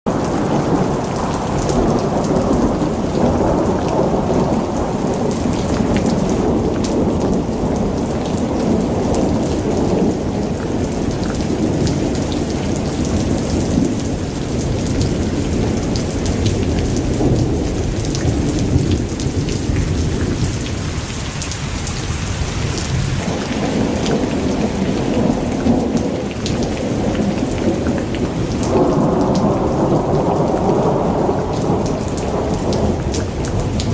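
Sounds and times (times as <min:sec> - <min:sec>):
rolling thunder: 0:00.1 - 0:33.9
steady rain: 0:00.1 - 0:33.9.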